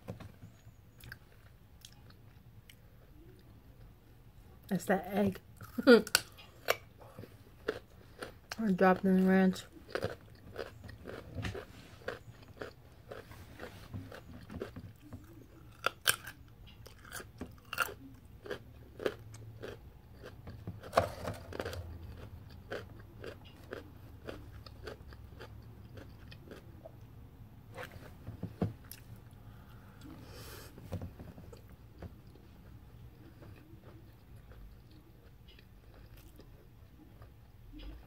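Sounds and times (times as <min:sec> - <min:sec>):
person chewing crunchy bread: 0:00.5 - 0:03.4, 0:05.6 - 0:27.1, 0:31.5 - 0:38.0.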